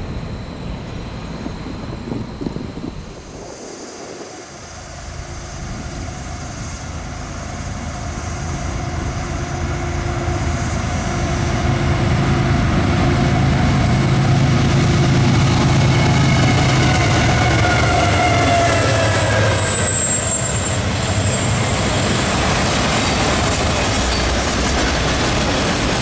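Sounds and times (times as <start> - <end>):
diesel locomotive engine drone: 0.0 - 26.0
passing train rumble: 0.0 - 26.0.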